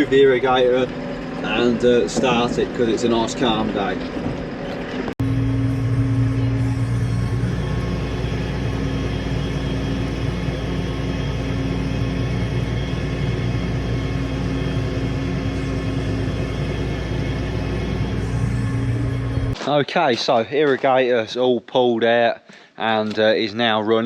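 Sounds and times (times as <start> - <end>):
engine running steadily: 0.0 - 19.6.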